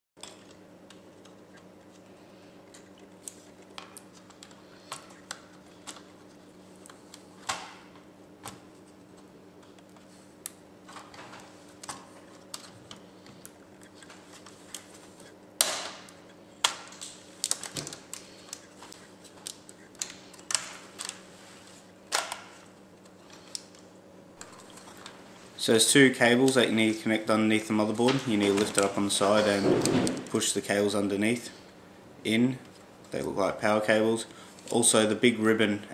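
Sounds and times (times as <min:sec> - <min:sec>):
faint steady hum: 0:00.2 - 0:35.9.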